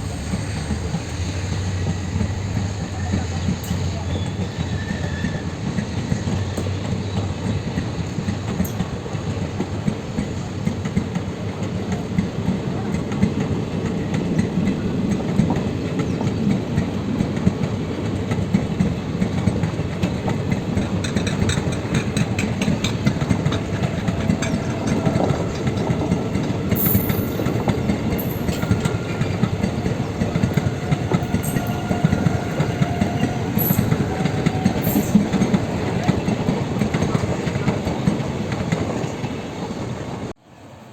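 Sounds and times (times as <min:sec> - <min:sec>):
sharp clicks of train wheels: 0:00.0 - 0:40.1
train wheels rumbling on track: 0:00.0 - 0:40.7.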